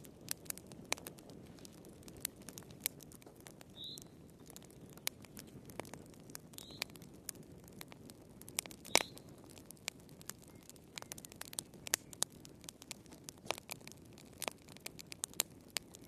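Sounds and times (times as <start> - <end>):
soft low fire rumble: 0.0 - 16.0
wood fire crackling: 0.0 - 16.0.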